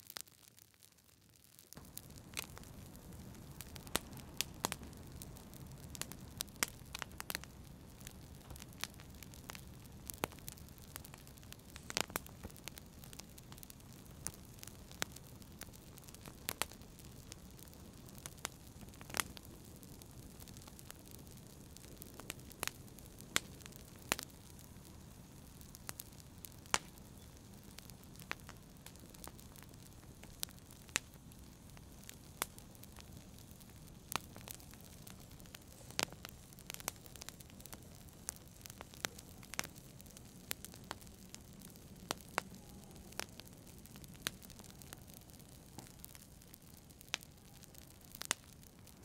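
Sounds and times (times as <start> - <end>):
wood fire crackling: 0.0 - 49.0
low rumble of flames: 0.1 - 49.0.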